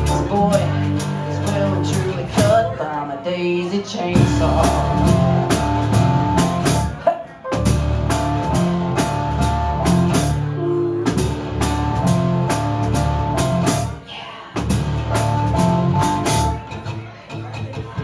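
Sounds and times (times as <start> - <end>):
rock drum kit: 0.0 - 2.8, 4.2 - 17.1
rock guitar playing: 0.0 - 2.8, 4.2 - 14.0, 14.6 - 17.2.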